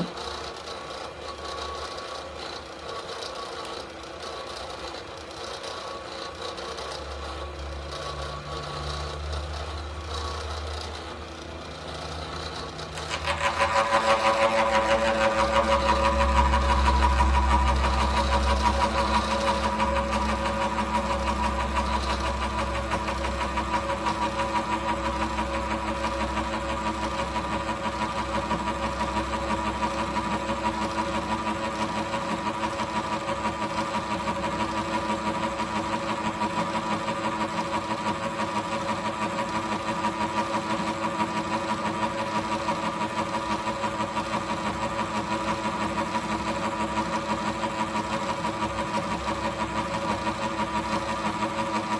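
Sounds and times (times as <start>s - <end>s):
milling machine whirring: 0.0s - 51.9s.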